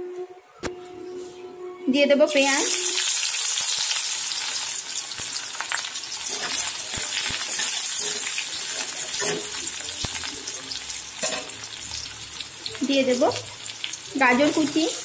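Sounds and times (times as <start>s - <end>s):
onions sizzling in oil: 2.3s - 15.0s.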